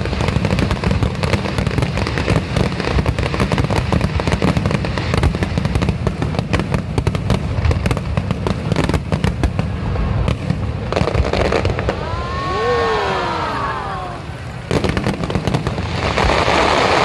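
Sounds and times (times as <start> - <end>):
fireworks bangs and crackling: 0.0 - 17.0
whistling fireworks: 0.0 - 17.0.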